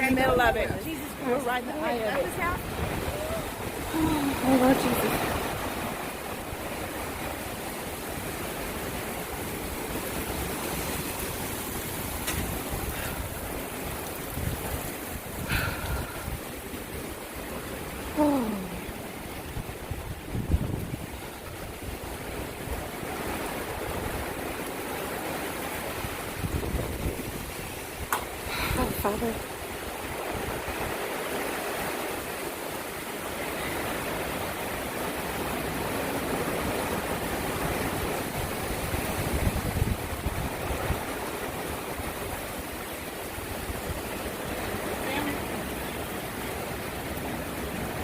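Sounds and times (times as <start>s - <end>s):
rain: 0.0s - 48.0s
wind roaring: 0.0s - 48.0s.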